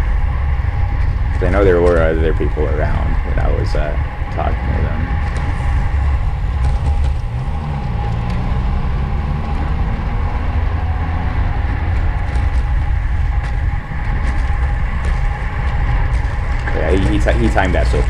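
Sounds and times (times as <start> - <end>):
bicycle tyre and road noise: 0.0 - 18.0
wind rushing over microphone: 0.0 - 18.0.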